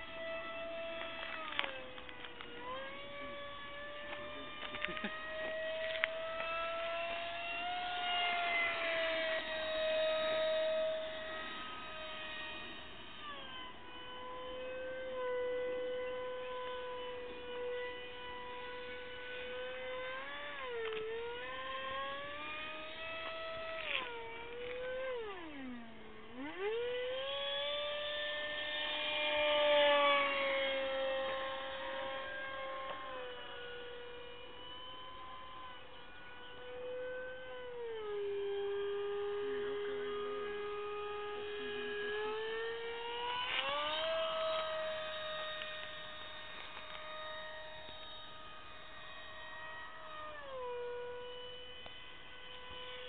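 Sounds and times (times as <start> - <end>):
model airplane motor whining: 0.0 - 53.0.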